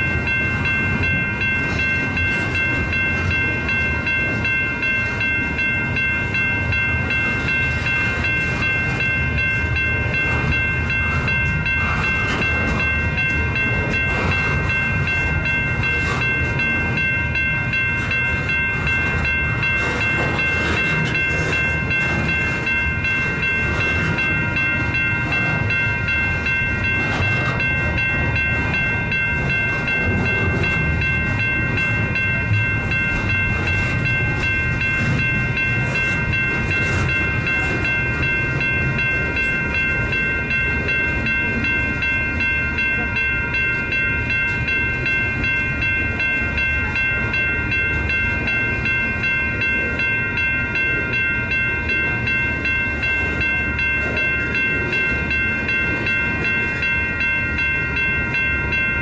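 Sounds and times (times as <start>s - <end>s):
high-pitched ringing: 0.0s - 59.0s
train wheels rumbling: 0.0s - 59.0s.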